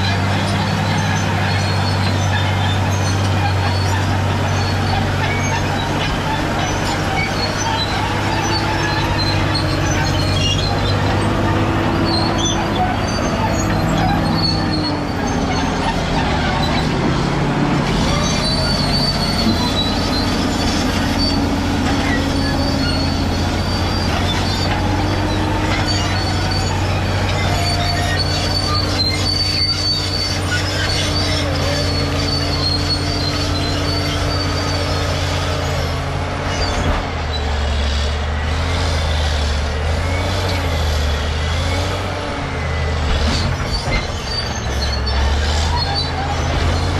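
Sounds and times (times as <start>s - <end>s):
bulldozer diesel engine running: 0.0s - 46.9s
steel tracks squealing: 0.0s - 46.9s.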